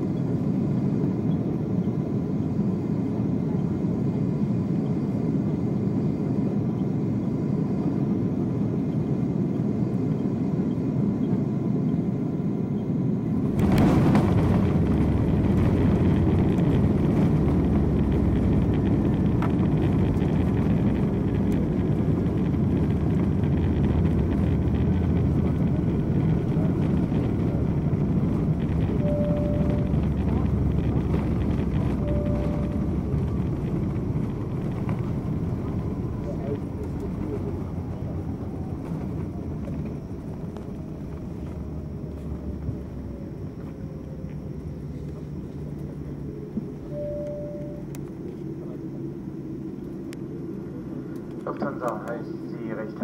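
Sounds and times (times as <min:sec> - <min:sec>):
airplane engines and airflow rumble: 0:00.0 - 0:53.0.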